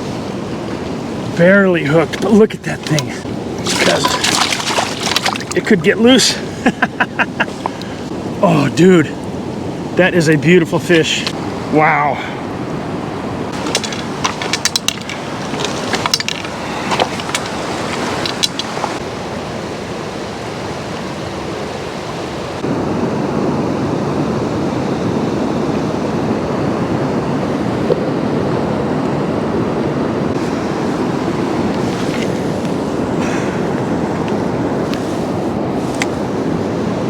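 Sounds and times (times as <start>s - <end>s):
river water rushing: 0.0s - 24.3s, 29.9s - 37.0s.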